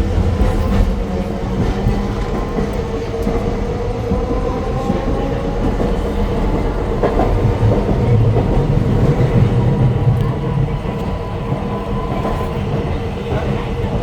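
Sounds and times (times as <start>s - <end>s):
tram wheels rumbling on track: 0.0s - 14.0s.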